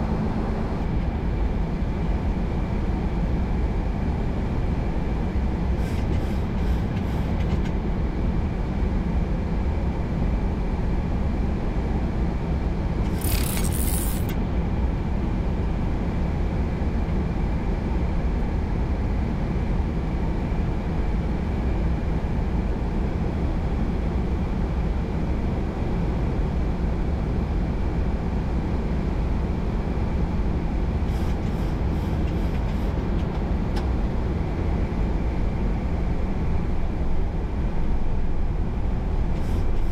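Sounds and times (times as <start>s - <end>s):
airflow and engine rush: 0.0s - 39.9s.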